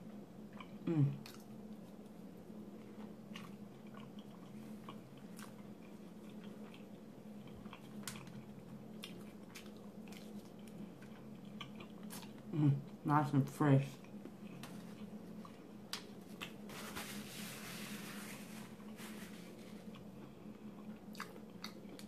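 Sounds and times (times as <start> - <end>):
steady low hum: 0.0 - 22.0
person chewing food: 0.4 - 13.0, 14.0 - 16.7, 18.4 - 22.0.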